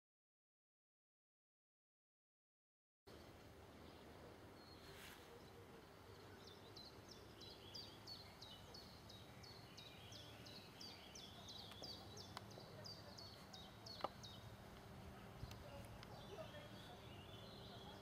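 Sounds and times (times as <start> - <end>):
low background hiss: 3.1 - 18.0
bird chirping: 3.2 - 18.0.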